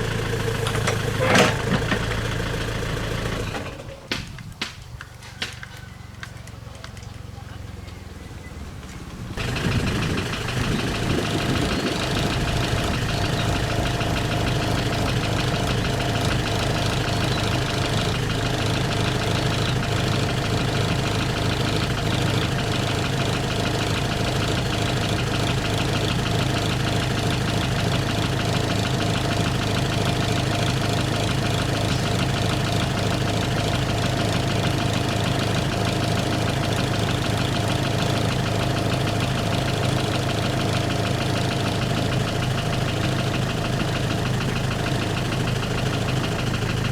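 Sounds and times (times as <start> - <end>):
diesel engine idling: 0.0 - 4.2, 6.0 - 46.9.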